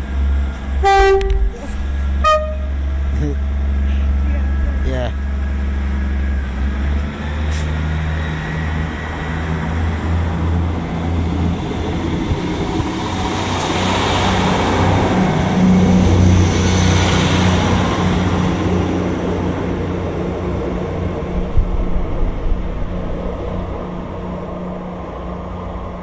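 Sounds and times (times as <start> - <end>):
diesel engine drone: 0.0 - 26.0
train wheels rumbling on rails: 0.0 - 26.0.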